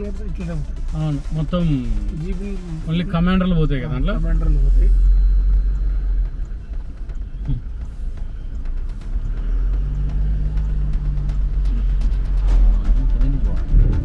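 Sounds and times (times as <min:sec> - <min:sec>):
steady engine hum: 0:00.0 - 0:14.0
vehicle engine deep rumble: 0:00.0 - 0:14.0.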